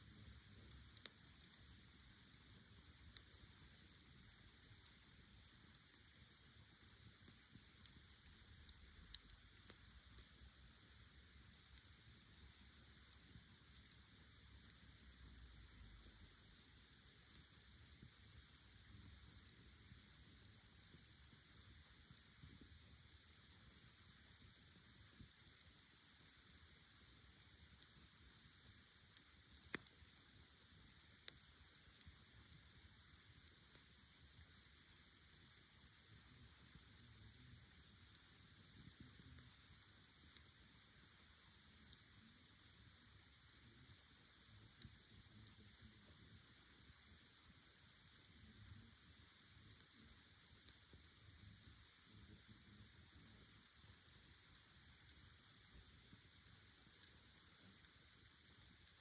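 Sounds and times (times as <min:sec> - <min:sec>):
crickets chirping: 0:00.0 - 0:59.0
faint campfire crackles: 0:00.0 - 0:59.0.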